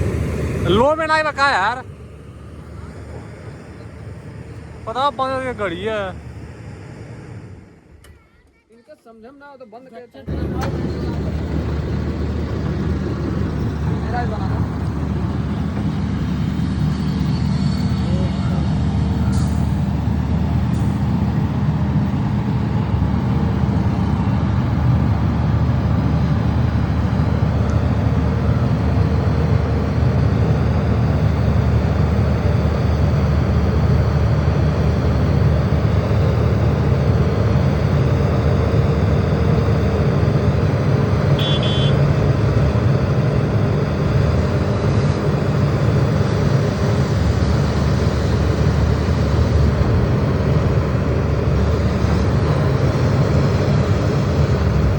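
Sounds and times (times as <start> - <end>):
diesel truck engine rumbling: 0.0 - 54.9.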